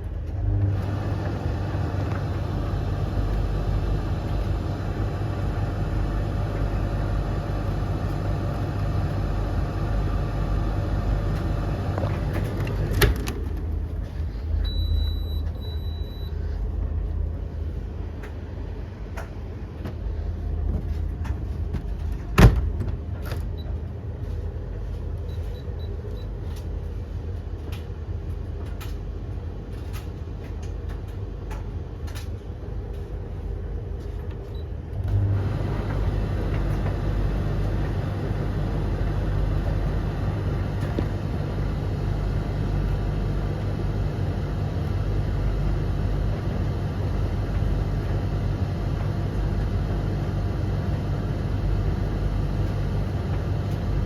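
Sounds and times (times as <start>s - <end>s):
tumble dryers humming: 0.0s - 54.0s.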